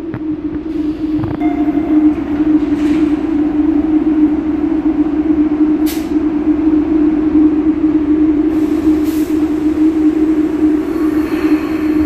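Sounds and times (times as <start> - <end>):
subway train low hum: 0.0 - 12.0.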